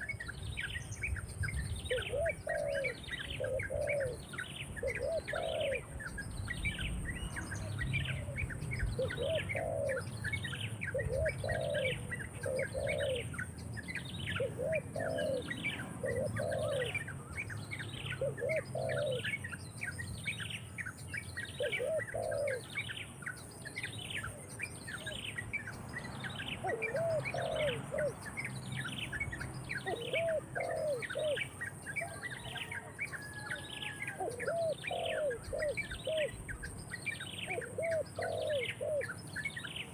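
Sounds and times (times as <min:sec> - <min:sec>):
bird cooing: 0:01.5 - 0:13.5, 0:14.2 - 0:20.4, 0:21.4 - 0:22.9, 0:26.4 - 0:39.4.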